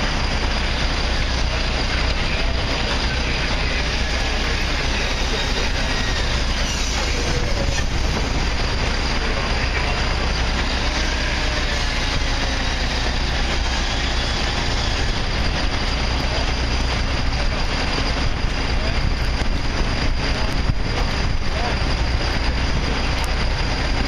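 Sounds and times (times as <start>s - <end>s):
constant low hum: 0.0s - 24.0s
fire truck diesel engines: 0.0s - 24.0s
pumps hissing: 0.0s - 24.0s.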